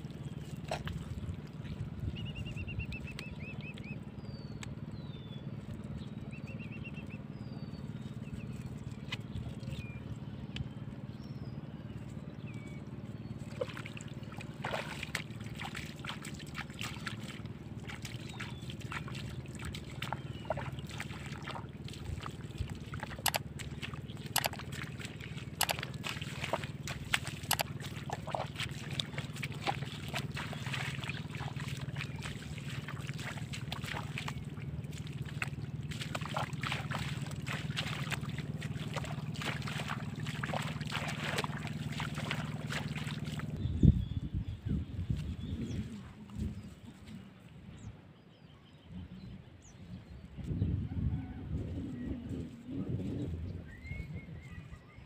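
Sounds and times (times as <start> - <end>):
splashing in shallow water: 0.0 - 47.9
small birds chirping: 0.0 - 50.7
steady low rumble: 0.0 - 55.0.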